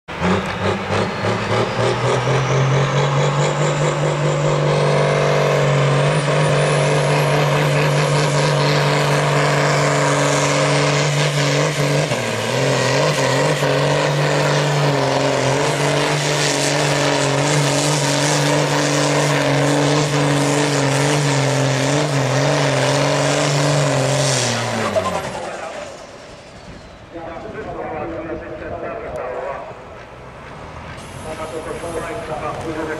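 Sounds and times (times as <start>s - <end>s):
tractor diesel engine under load: 0.1s - 32.9s.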